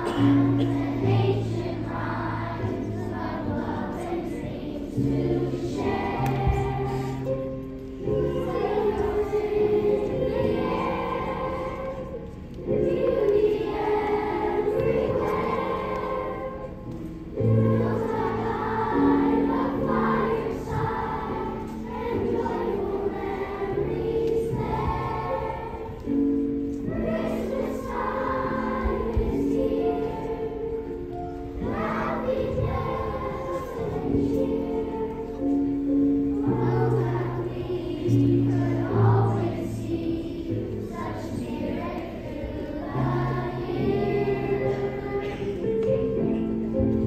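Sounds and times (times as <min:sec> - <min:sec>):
children's choir singing: 0:00.0 - 0:47.0
instrumental accompaniment: 0:00.0 - 0:47.0.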